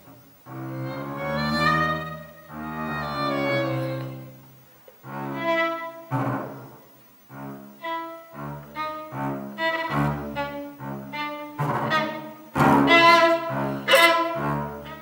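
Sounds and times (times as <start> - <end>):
double bass bowed notes: 0.0 - 15.0
violin bowed notes: 0.5 - 15.0.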